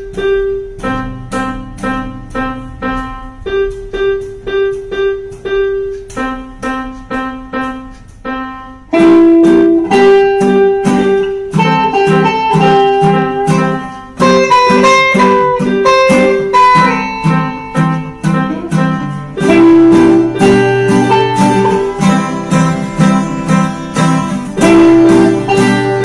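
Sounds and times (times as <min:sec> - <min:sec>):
higher guitar melody: 0:00.0 - 0:26.0
plucked guitar chords: 0:00.0 - 0:26.0.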